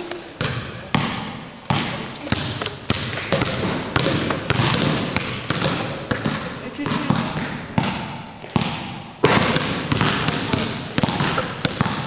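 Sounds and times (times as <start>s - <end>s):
basketballs bouncing on gym floor: 0.0s - 12.0s.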